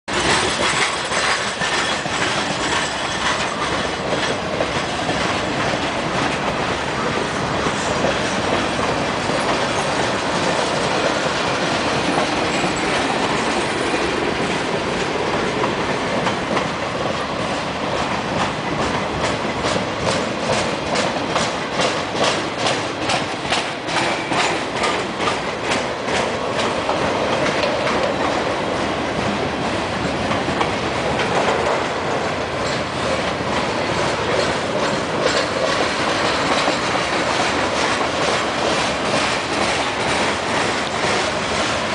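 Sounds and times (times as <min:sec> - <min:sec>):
freight train rolling past: 0:00.1 - 0:41.9
wheels clickety-clack over rail joints: 0:00.1 - 0:41.9.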